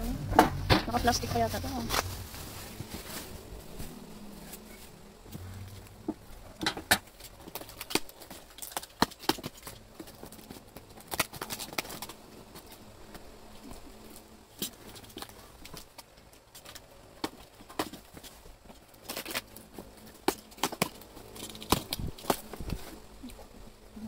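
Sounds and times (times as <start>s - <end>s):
plastic wrap crackling: 0.1s - 13.2s, 14.5s - 23.3s.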